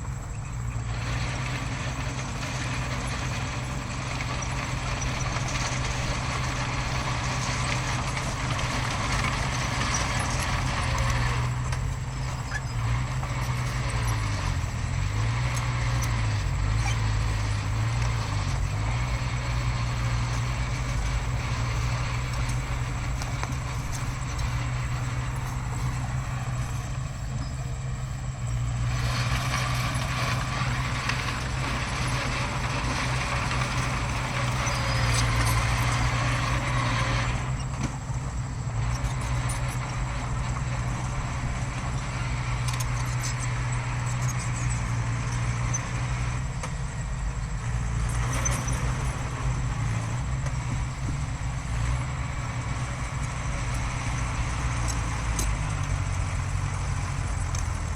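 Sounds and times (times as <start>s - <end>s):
heavy diesel machinery droning: 0.0s - 57.9s.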